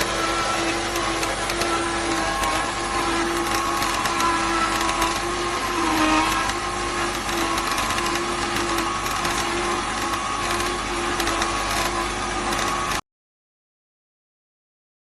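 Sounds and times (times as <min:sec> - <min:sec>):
juicer motor grinding: 0:00.0 - 0:13.0.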